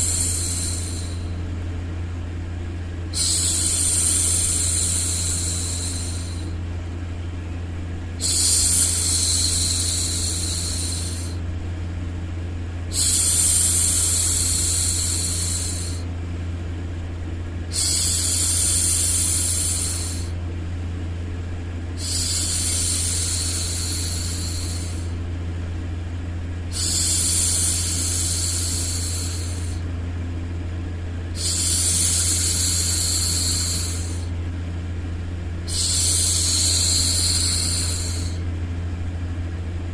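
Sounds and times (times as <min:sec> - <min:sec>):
low white-noise hum: 0:00.0 - 0:39.9.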